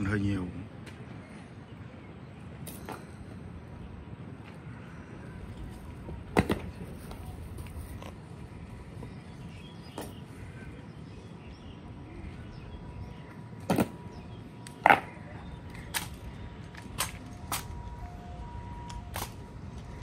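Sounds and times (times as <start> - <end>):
background noise: 0.0 - 20.0.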